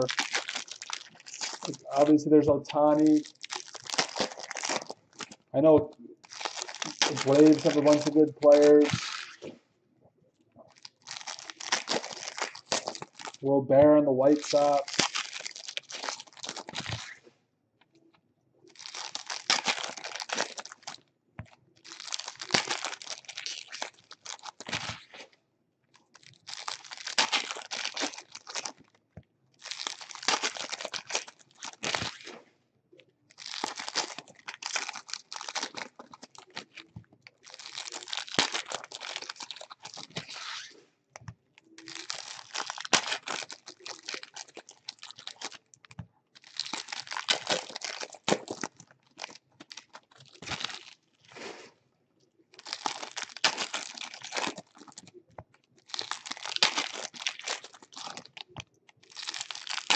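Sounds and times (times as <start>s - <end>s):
card pack wrappers tearing and crinkling: 0.0s - 9.6s, 10.7s - 13.5s, 14.2s - 17.2s, 18.7s - 21.0s, 21.8s - 25.3s, 26.0s - 29.0s, 29.6s - 32.4s, 33.3s - 40.7s, 41.6s - 51.5s, 52.5s - 55.2s, 55.8s - 59.9s.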